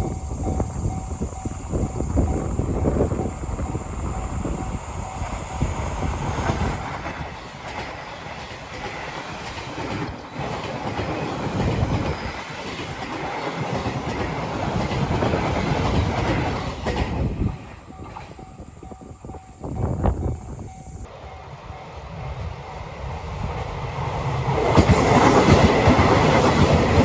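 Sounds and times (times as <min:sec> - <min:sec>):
train wheels clattering over rail joints: 0:00.0 - 0:20.4, 0:24.2 - 0:27.0.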